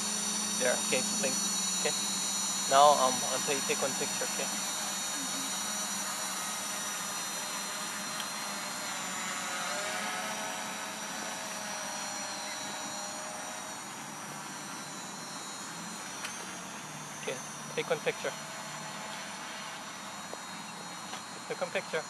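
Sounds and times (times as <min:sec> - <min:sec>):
drone propellers buzzing: 0:00.0 - 0:22.0.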